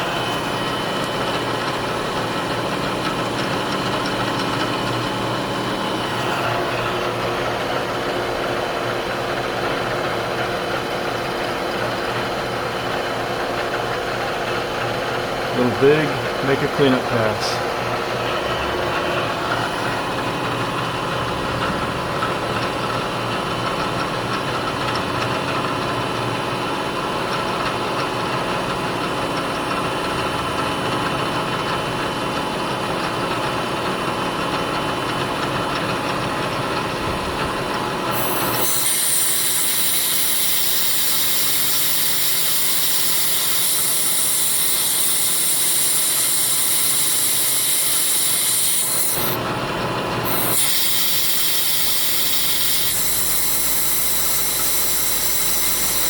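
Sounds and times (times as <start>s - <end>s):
milling machine spindle hum: 0.0s - 31.4s, 32.3s - 56.0s.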